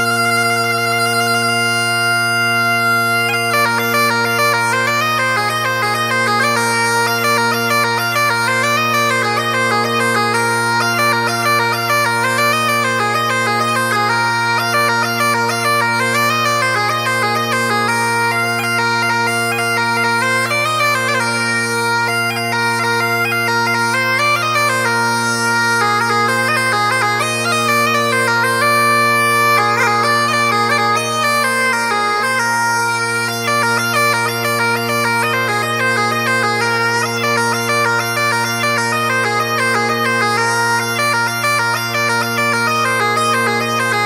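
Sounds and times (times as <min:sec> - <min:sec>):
bagpipe music: 0:00.0 - 0:44.0.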